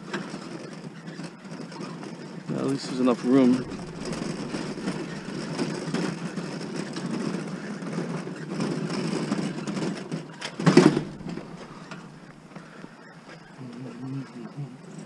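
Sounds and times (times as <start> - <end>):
hand truck wheels rumbling: 0.0 - 13.0.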